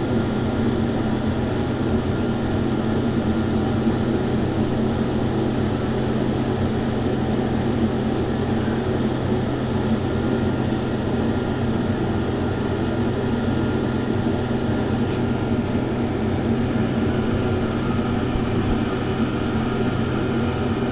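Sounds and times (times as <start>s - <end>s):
engine humming steadily: 0.0s - 20.9s.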